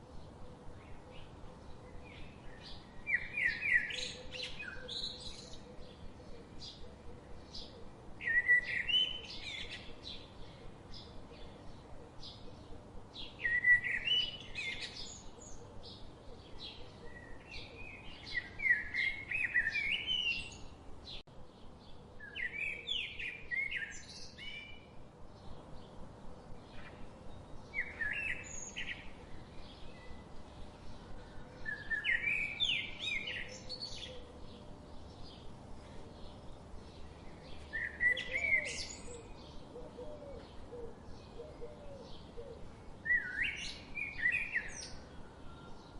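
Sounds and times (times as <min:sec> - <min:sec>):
faint steady background hiss: 0:00.0 - 0:45.9
songbird singing chirpy notes: 0:00.0 - 0:45.9.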